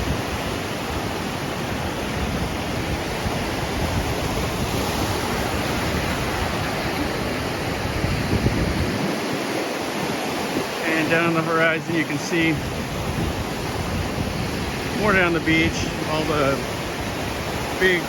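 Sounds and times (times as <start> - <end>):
waves washing onto beach: 0.0 - 18.0
wind rumbling on microphone: 0.0 - 18.0.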